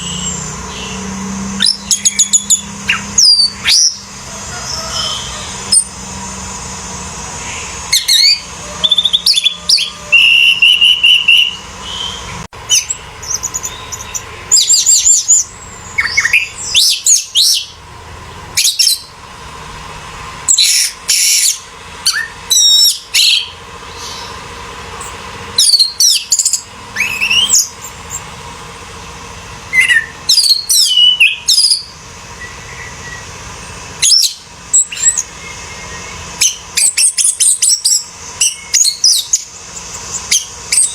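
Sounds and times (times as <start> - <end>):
thrush singing: 0.0 - 40.9.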